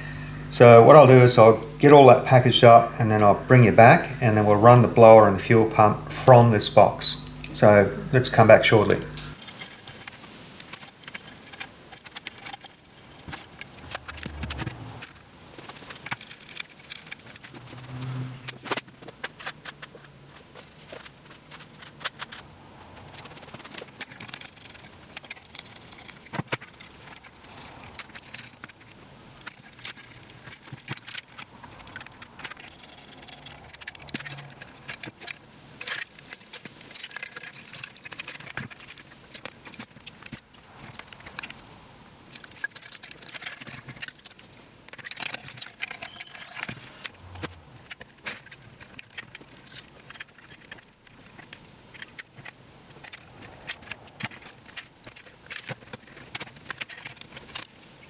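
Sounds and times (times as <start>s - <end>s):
electronic parts clicking and rattling: 0.0s - 58.0s.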